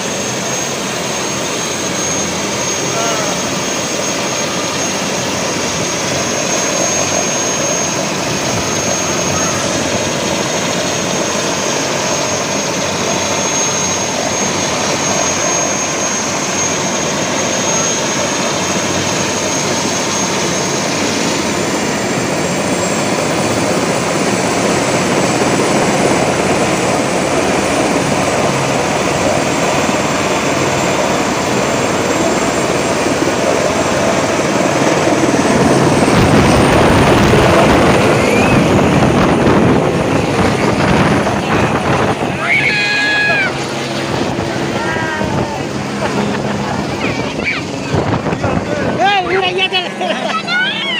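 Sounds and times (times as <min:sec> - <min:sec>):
helicopter rotor chop: 0:00.0 - 0:50.9
helicopter turbine whine: 0:00.0 - 0:50.9.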